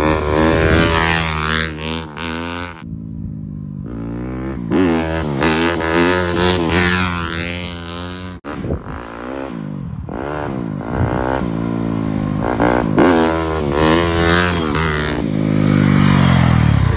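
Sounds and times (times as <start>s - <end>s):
dirt bike engine revving: 0.0s - 2.9s, 3.8s - 16.9s.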